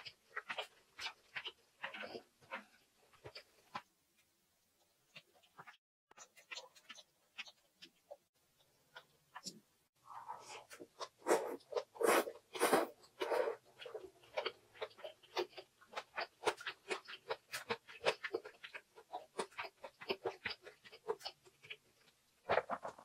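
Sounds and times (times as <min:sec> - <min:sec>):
mouth chewing fried rice: 0:00.0 - 0:23.0.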